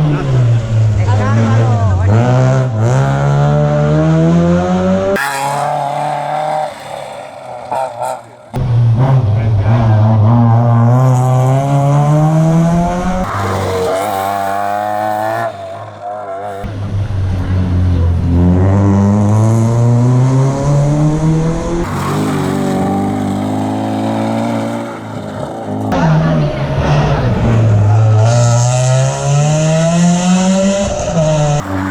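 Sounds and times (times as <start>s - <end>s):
rally car engine accelerating: 0.0s - 31.9s.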